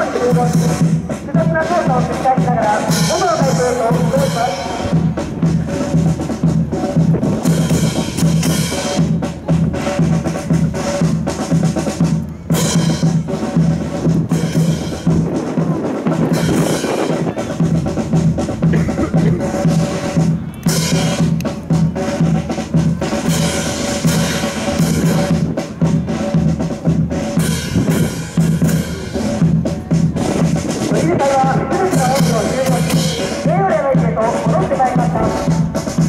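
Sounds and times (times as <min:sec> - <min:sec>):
bass drum and snare beat: 0:00.0 - 0:36.0
marching band playing: 0:00.0 - 0:36.0.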